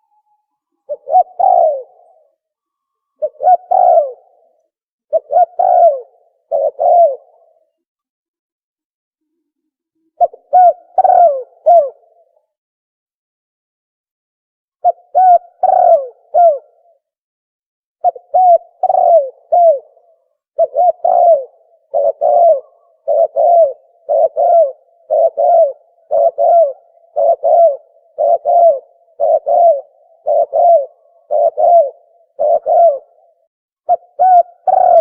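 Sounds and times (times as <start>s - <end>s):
dove cooing: 0.0s - 2.5s, 3.1s - 7.8s, 10.2s - 12.4s, 14.8s - 17.0s, 18.0s - 35.0s.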